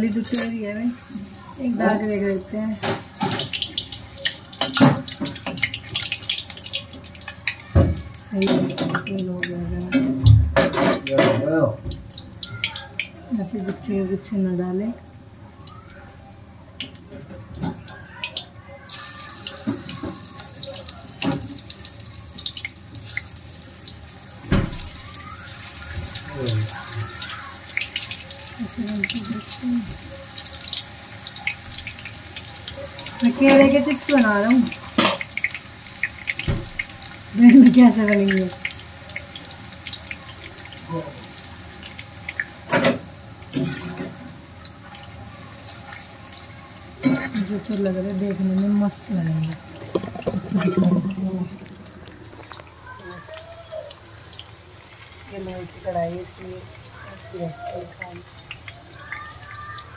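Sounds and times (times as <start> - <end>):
banana slices sizzling in oil: 0.0 - 59.9.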